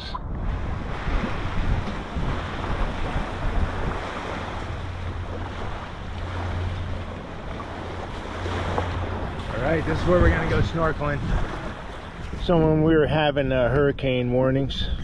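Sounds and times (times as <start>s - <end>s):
surf on a beach: 0.0s - 15.0s
wind rumbling on microphone: 0.0s - 15.0s.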